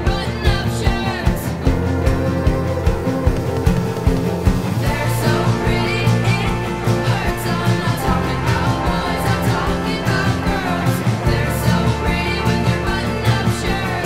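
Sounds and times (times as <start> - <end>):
song with vocals and band: 0.0 - 14.0
steady drum beat: 0.0 - 14.0.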